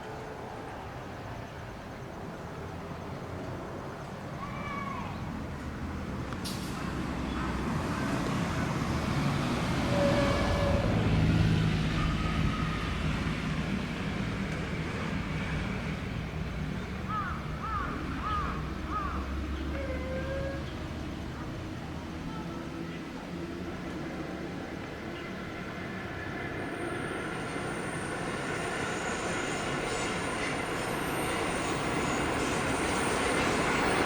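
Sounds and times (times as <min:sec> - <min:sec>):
train running past: 0:00.0 - 0:34.0.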